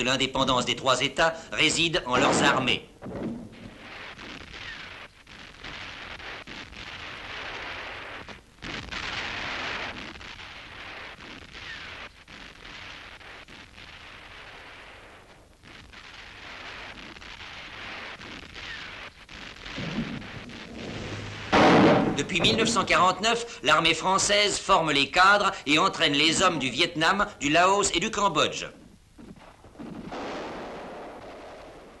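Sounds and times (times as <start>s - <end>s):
film soundtrack hiss and crackle: 0.0s - 32.0s.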